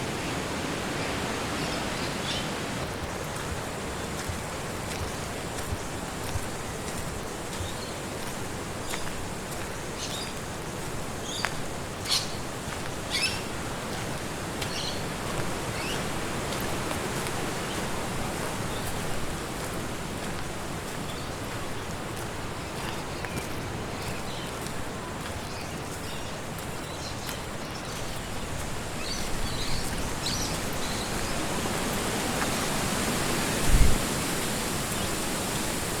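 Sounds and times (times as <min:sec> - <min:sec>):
wind rushing through trees: 0:00.0 - 0:36.0.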